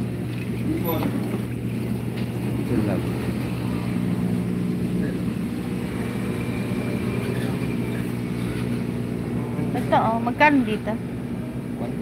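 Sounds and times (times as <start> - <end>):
motor hum with even tones: 0.0 - 12.0.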